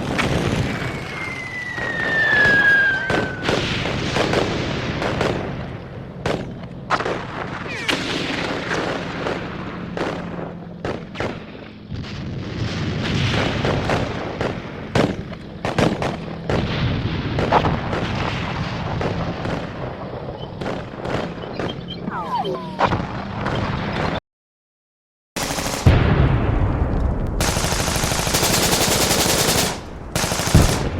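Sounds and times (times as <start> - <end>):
gunshots: 0.0 - 20.0, 20.6 - 21.9, 27.4 - 30.9
booming blasts: 0.0 - 21.8, 25.7 - 30.9.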